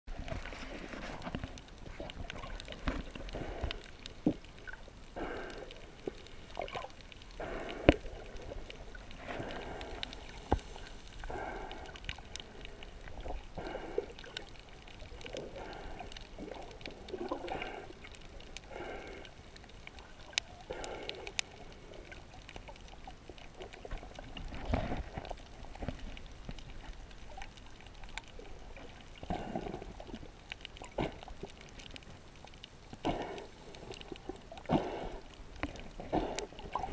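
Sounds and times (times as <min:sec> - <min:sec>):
muffled water sloshing: 0:00.1 - 0:36.9.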